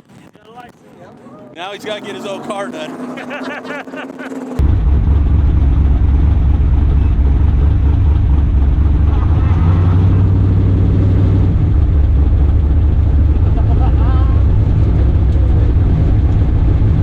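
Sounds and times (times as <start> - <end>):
car engine rumbling at low revs: 0.7 - 17.0.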